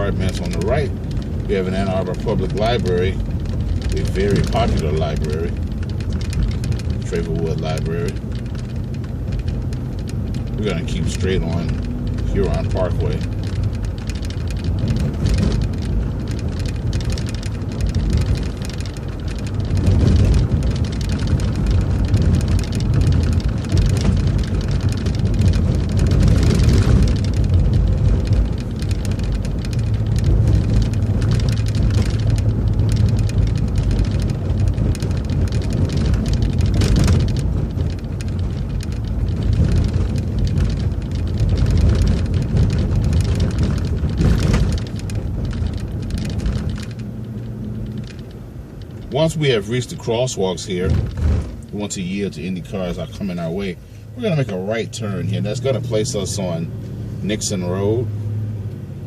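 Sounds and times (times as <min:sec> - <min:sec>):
bus engine hum: 0:00.0 - 0:59.0
rattles and knocks: 0:00.0 - 0:59.0
road and tyre noise: 0:00.0 - 0:59.0.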